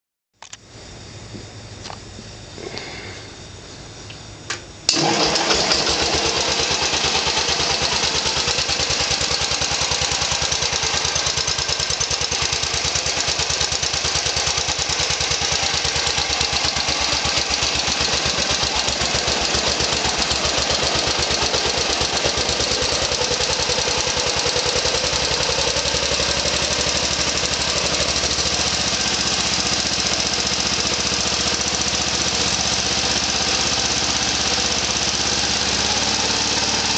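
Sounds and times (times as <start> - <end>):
small engine starting and running: 4.9 - 36.9.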